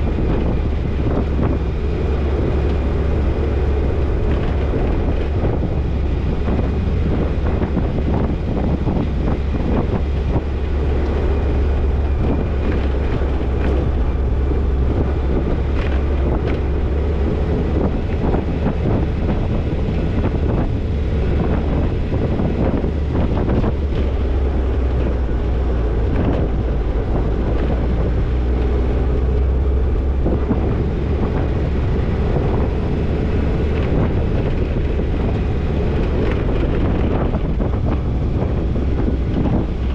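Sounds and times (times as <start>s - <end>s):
engine and drivetrain rumble: 0.0s - 39.9s
knocks and rattles over bumps: 0.0s - 39.9s
wind buffeting microphone: 0.0s - 39.9s.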